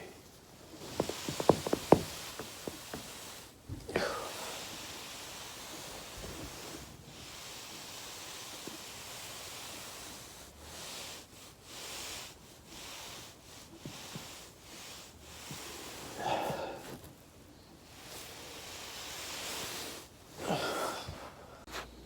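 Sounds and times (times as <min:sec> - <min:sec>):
foam roller rustling hiss: 0:00.0 - 0:22.0.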